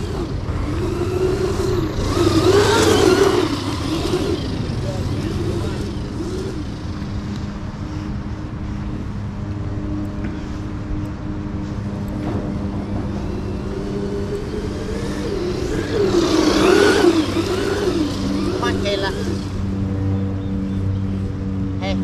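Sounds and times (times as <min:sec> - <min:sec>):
electric motor whining: 0:00.0 - 0:22.0.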